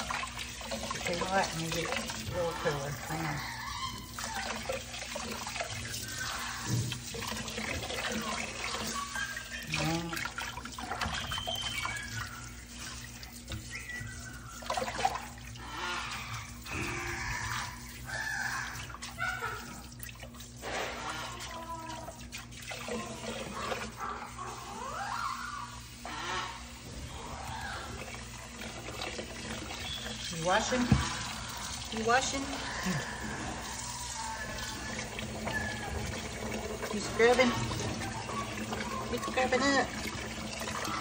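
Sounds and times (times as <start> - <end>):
water splashing: 0.0 - 25.0, 26.1 - 41.0
water running into a sink: 0.0 - 41.0.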